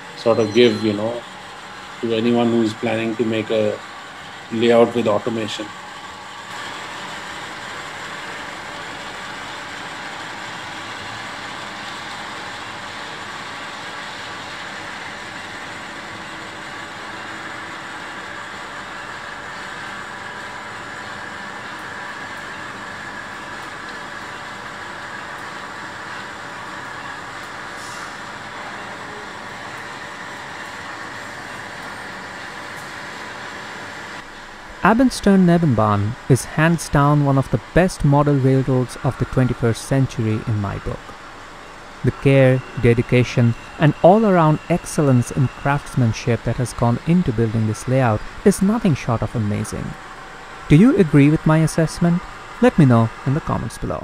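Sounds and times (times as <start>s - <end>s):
model trains rolling: 0.0s - 54.0s.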